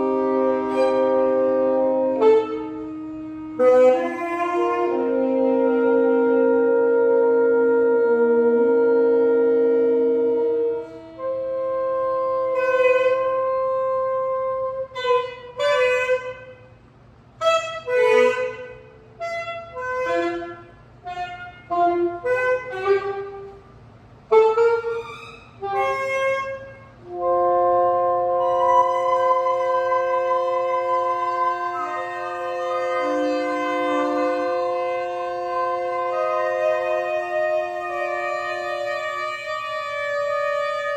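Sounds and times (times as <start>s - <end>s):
saxophones playing improvised music: 0.0s - 40.9s.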